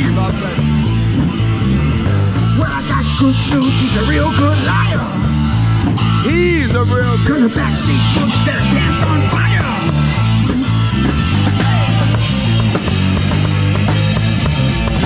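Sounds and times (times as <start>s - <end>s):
bass line: 0.0s - 15.0s
drum kit: 0.0s - 15.0s
electric guitars: 0.0s - 15.0s.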